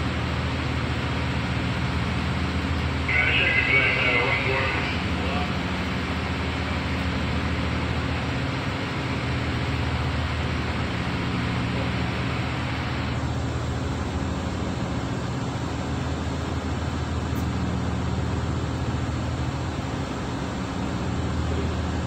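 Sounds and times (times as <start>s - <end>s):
diesel generators humming: 0.0s - 22.0s.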